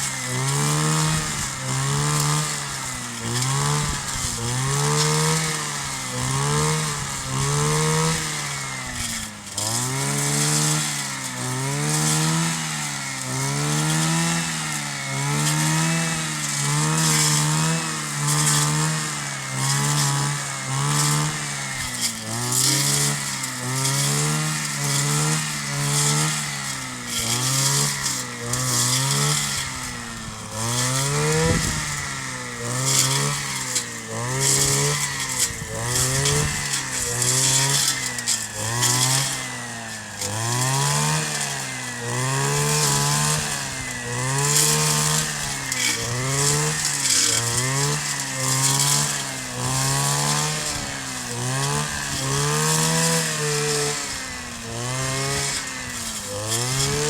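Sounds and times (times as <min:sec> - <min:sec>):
brush cutter engine revving: 0:00.0 - 0:57.0.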